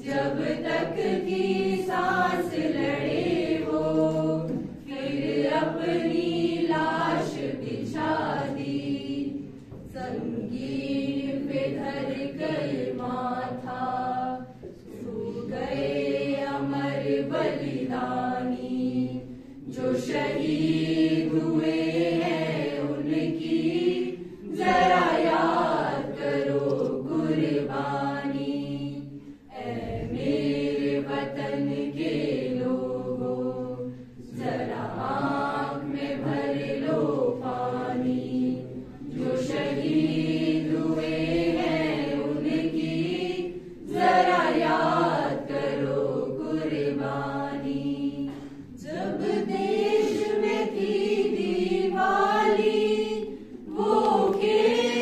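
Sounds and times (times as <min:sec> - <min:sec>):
choir singing unaccompanied: 0:00.0 - 0:55.0.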